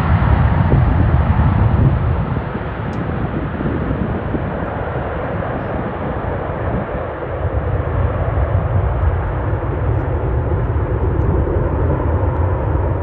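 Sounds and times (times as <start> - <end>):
airliner engine and airflow rumble: 0.0 - 13.0.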